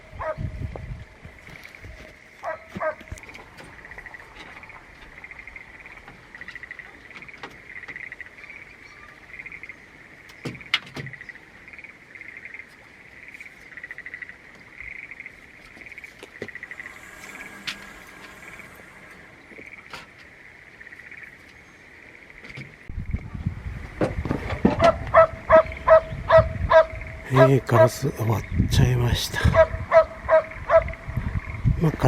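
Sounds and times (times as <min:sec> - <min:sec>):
animal chorus of pulsed chirps: 0:00.0 - 0:10.2, 0:11.2 - 0:22.9, 0:25.2 - 0:32.0.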